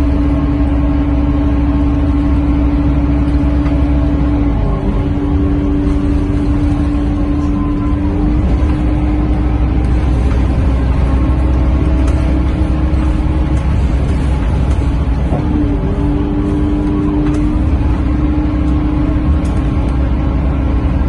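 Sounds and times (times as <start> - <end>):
bus engine and road rumble: 0.0 - 21.0
steady whine: 0.0 - 21.0.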